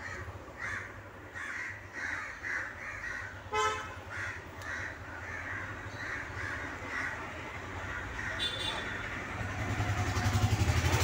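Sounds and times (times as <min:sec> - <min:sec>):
birds calling: 0:00.0 - 0:10.4.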